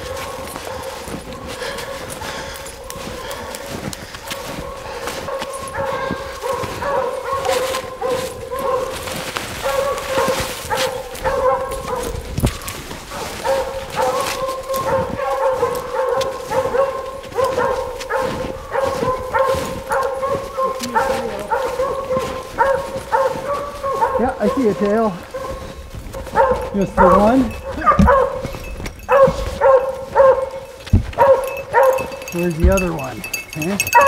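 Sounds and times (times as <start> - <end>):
footsteps crunching in snow: 0.0 - 34.0
hounds baying: 0.0 - 34.0.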